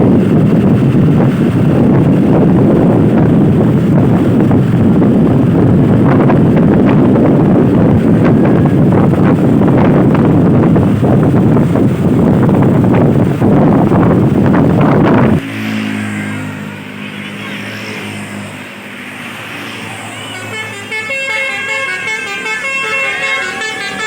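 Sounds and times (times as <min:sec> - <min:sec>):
wind buffeting microphone: 0:00.0 - 0:19.7
low rumble of road traffic: 0:00.0 - 0:24.0.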